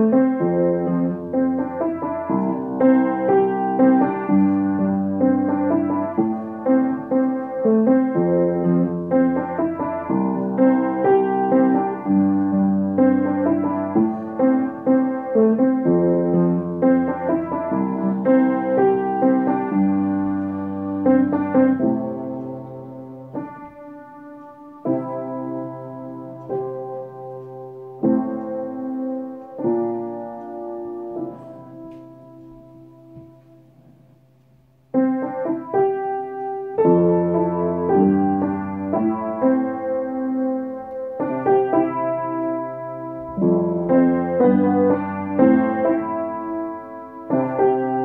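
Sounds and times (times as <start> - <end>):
piano chords: 0.0 - 48.0.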